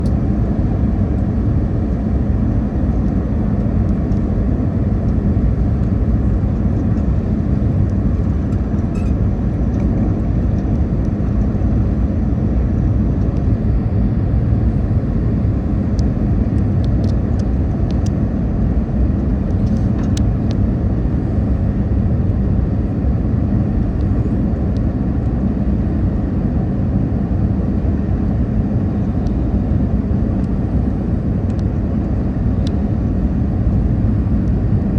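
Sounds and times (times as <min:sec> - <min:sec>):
airliner engine rumble in cabin: 0:00.0 - 0:34.9.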